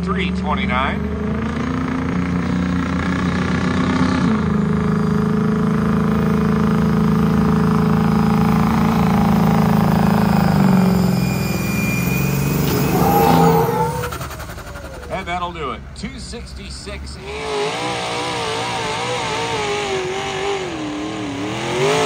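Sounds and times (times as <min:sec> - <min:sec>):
diesel pickup engine at full throttle: 0:00.0 - 0:22.0.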